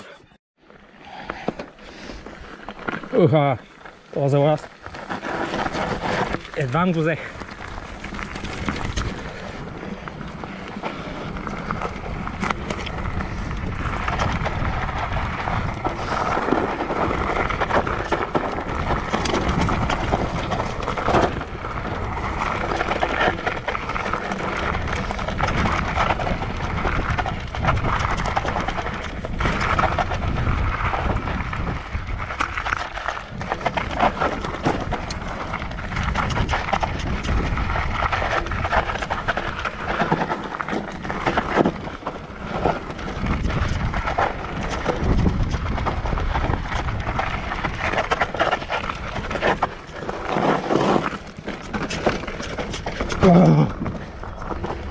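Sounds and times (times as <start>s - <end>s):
bike rattling over bumps: 0.6s - 54.9s
tyre and wind rumble: 0.8s - 54.9s.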